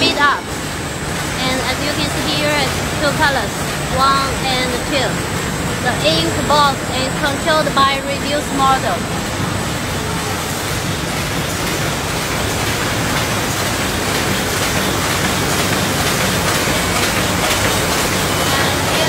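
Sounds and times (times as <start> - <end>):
paper bag machine running: 0.0 - 19.0.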